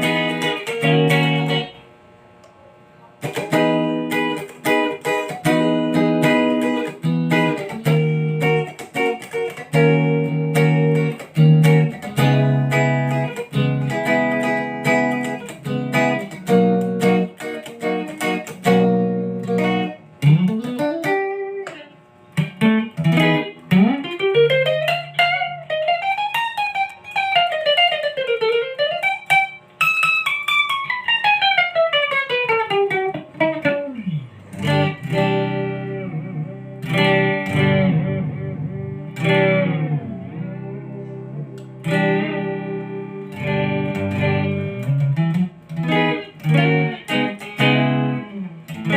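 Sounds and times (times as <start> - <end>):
electric guitar chords and riffs: 0.0 - 2.0, 3.1 - 48.9
guitar tremolo pitch dive: 3.2 - 48.9.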